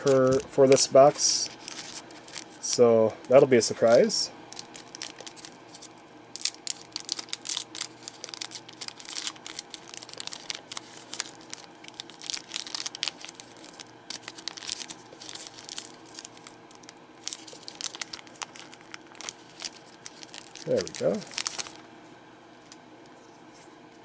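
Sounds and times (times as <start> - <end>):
foil wrapper tearing and crinkling: 0.0 - 0.8, 1.4 - 2.8, 3.7 - 21.8.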